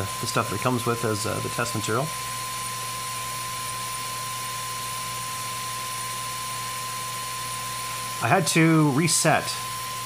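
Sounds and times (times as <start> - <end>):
small cooling fan whirring: 0.0 - 10.0
thin high whine: 0.0 - 10.0.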